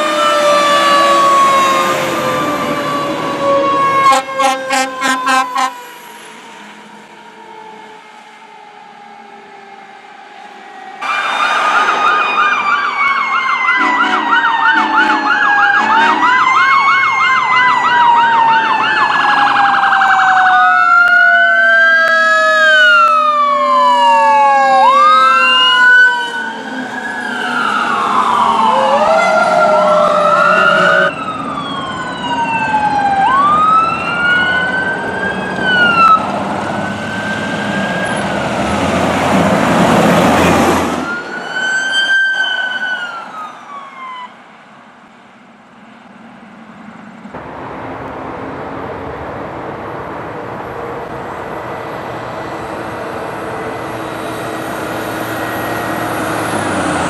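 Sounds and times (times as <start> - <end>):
fire truck sirens: 0.0 - 57.0.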